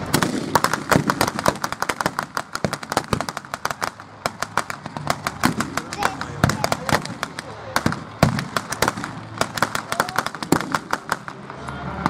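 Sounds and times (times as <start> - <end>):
blank rifle fire crackle: 0.0 - 11.6.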